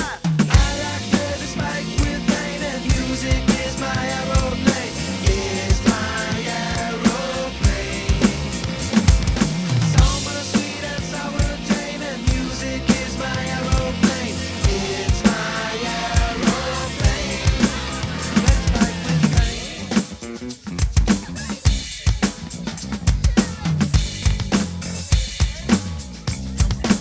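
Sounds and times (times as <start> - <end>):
drum kit playing: 0.0 - 27.0
recorded rock song: 0.0 - 27.0.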